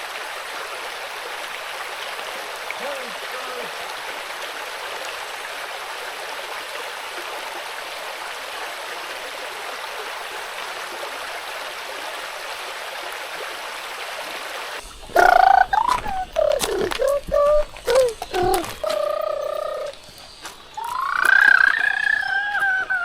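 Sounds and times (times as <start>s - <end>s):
stream flowing over rocks: 0.0s - 23.0s.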